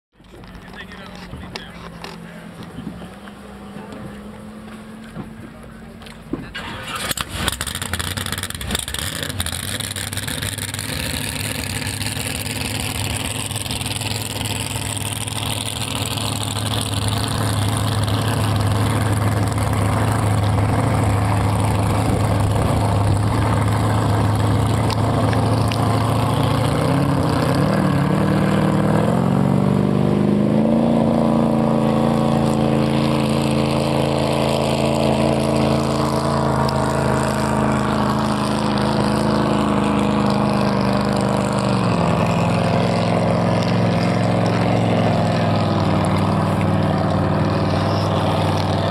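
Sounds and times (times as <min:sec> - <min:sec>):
boat engine running: 0:00.2 - 0:48.9.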